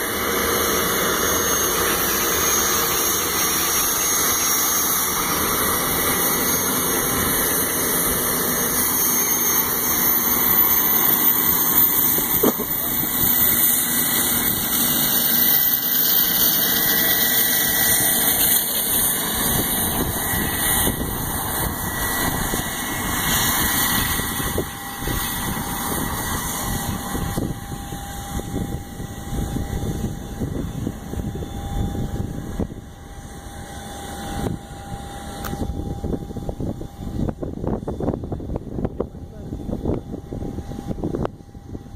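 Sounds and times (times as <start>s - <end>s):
jet engine roar and whine: 0.0s - 41.9s
steady lower whine: 0.0s - 41.9s.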